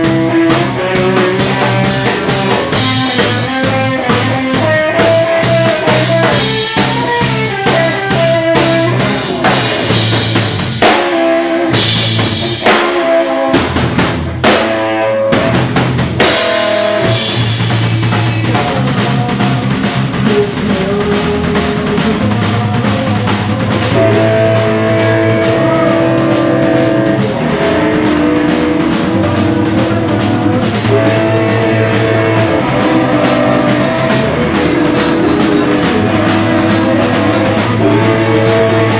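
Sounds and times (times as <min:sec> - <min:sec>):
drum kit: 0:00.0 - 0:38.9
electric guitar: 0:00.0 - 0:38.9
rock band playing loud: 0:00.0 - 0:38.9.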